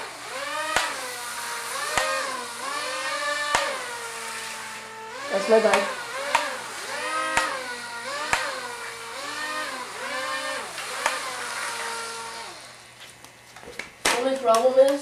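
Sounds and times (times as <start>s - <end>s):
small propeller motors whining: 0.0s - 13.0s.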